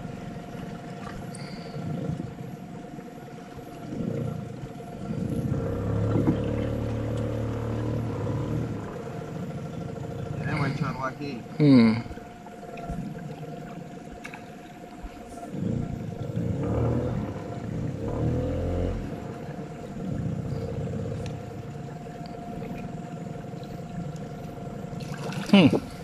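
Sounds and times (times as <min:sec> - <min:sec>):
engine running with whine: 0:00.0 - 0:26.0.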